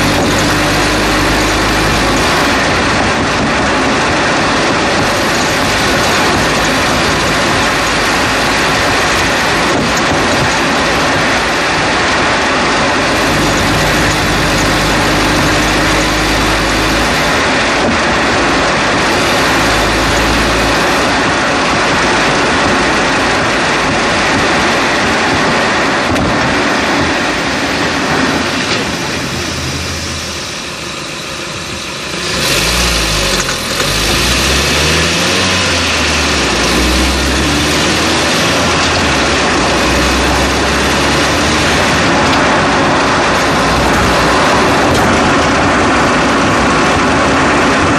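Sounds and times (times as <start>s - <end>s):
car engine running: 0.0s - 47.9s
road and tyre noise: 0.0s - 47.9s.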